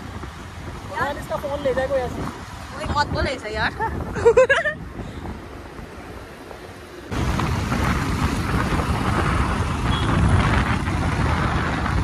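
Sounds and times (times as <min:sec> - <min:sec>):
road and traffic noise: 0:00.0 - 0:12.0
wind rumble on microphone: 0:00.0 - 0:12.0.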